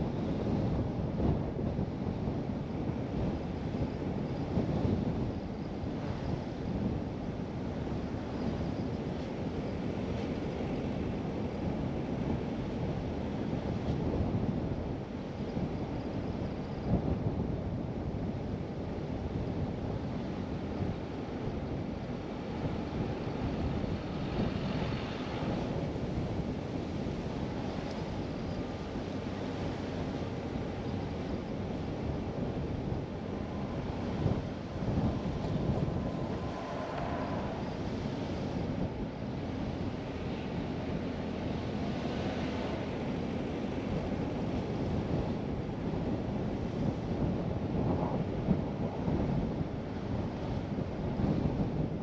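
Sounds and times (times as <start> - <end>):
car road and tyre rumble: 0.0 - 52.0
wind buffeting microphone: 0.0 - 52.0.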